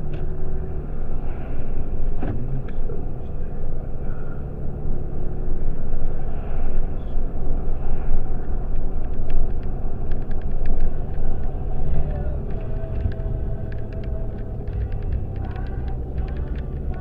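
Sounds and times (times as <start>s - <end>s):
car road rumble from inside: 0.0s - 17.0s.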